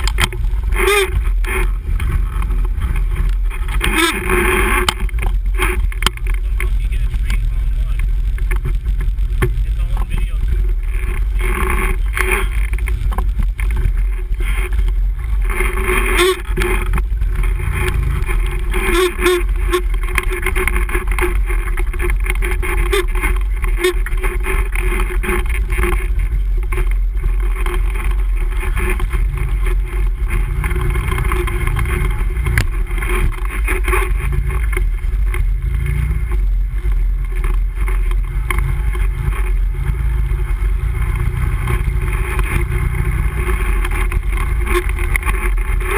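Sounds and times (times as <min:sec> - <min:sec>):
quad bike engine running: 0:00.0 - 0:45.9.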